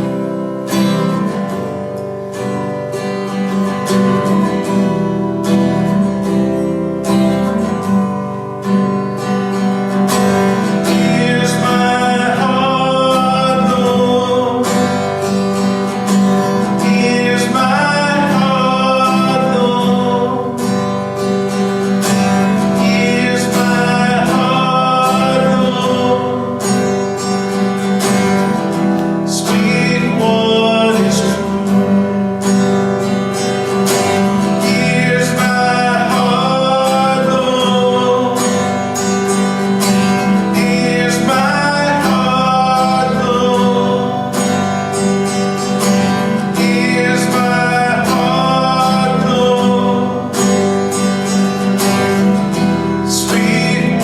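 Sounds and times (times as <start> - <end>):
strummed acoustic guitar: 0.0 - 54.0
person singing: 8.8 - 54.0.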